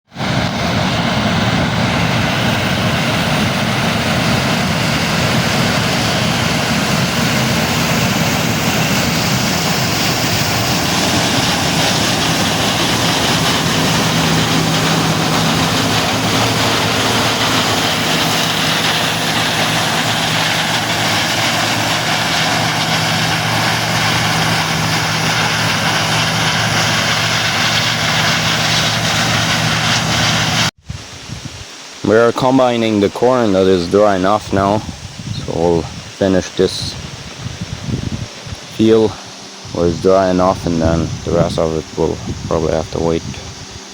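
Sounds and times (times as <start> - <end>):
combine harvester running: 0.1 - 30.7, 32.4 - 43.9.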